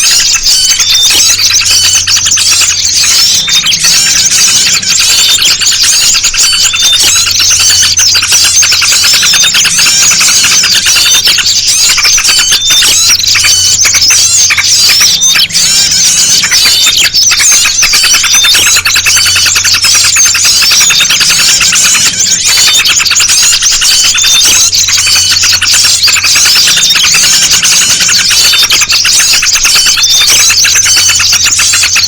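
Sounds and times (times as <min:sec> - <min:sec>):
bulbul chatter: 0:00.0 - 0:32.0
high bird chirps and twitters: 0:00.0 - 0:32.0.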